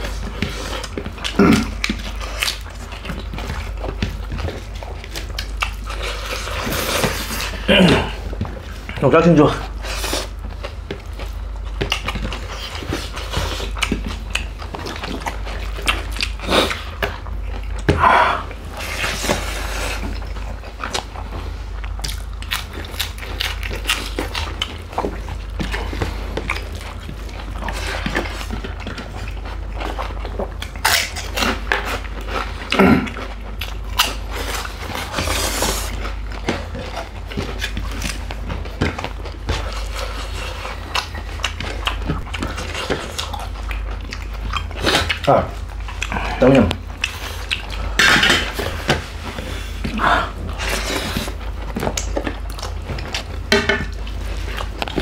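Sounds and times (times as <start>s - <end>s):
chewing and lip smacking: 0.0s - 55.0s.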